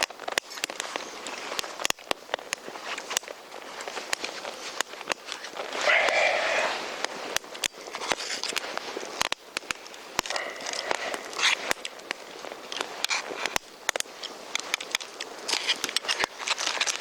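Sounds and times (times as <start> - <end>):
campfire crackling and popping: 0.0 - 17.0
rustling or crunching: 0.0 - 17.0.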